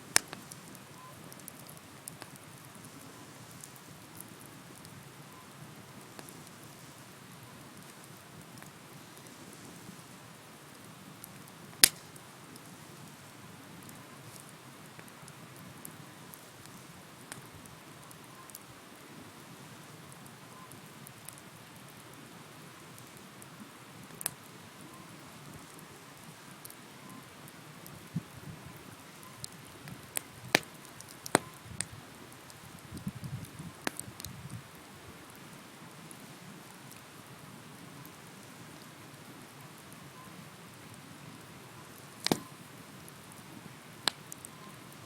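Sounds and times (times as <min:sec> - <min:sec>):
campfire hissing: 0:00.0 - 0:45.0
faint fire crackles: 0:00.0 - 0:45.0.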